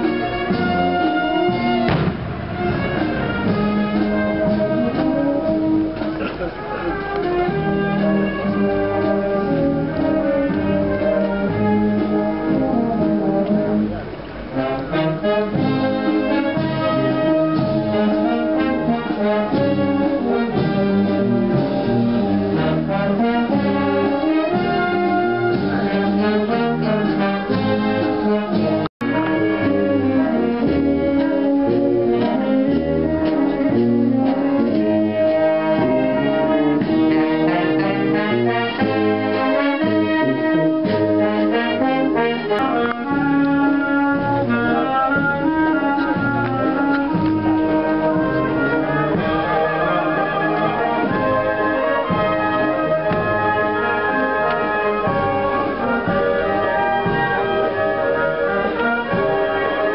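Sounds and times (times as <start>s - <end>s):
brass band playing a march: 0.0s - 59.9s.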